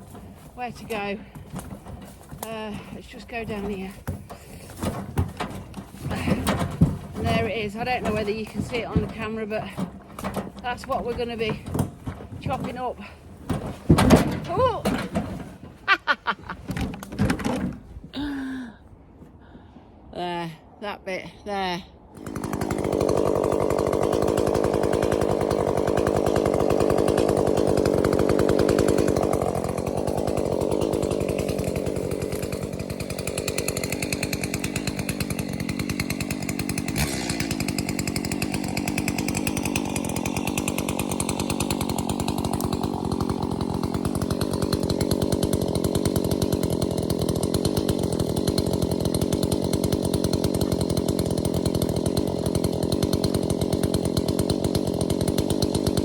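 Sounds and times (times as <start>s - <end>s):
chainsaw cutting: 0.0s - 18.6s, 22.0s - 56.0s.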